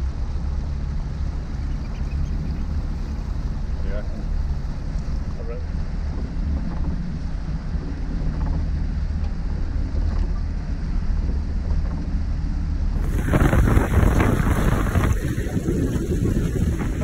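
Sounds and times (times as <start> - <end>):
low rumble of engine and water: 0.0 - 17.0
water rushing and splashing: 0.0 - 17.0.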